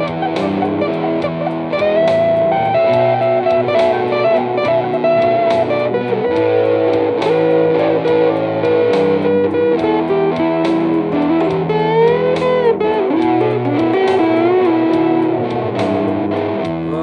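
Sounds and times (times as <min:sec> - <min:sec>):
electric guitar blues line: 0:00.0 - 0:17.0.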